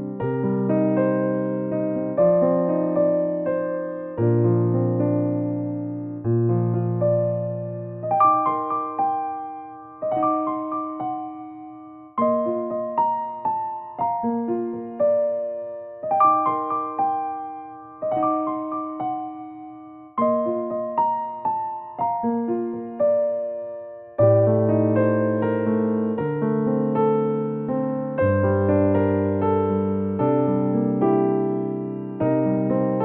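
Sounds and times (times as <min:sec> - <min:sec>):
gentle electric piano melody: 0:00.0 - 0:33.0.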